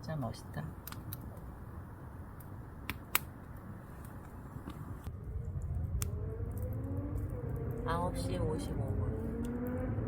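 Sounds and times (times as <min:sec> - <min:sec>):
campfire crackling: 0:00.0 - 0:10.0
low steady rumble: 0:00.0 - 0:10.0
fire popping: 0:00.2 - 0:10.0.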